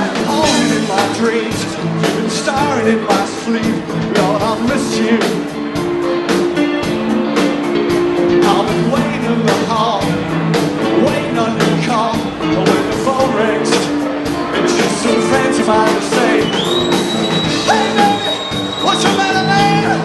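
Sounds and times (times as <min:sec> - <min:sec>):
drums steady beat: 0:00.0 - 0:20.0
electric guitar and bass chords: 0:00.0 - 0:20.0
live rock band playing: 0:00.0 - 0:20.0.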